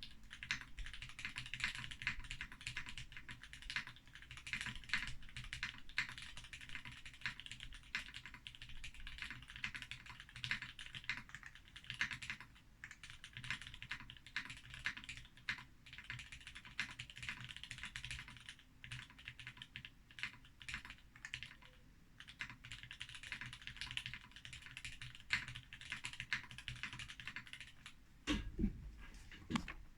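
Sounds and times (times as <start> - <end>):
fast mechanical keyboard typing: 0.0 - 27.9.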